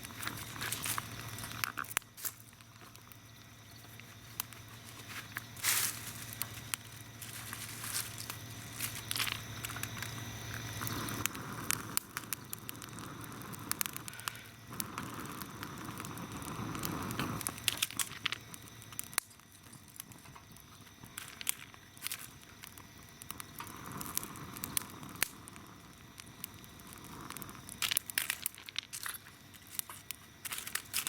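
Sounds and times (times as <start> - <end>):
kindling crackling and popping: 0.0 - 31.0.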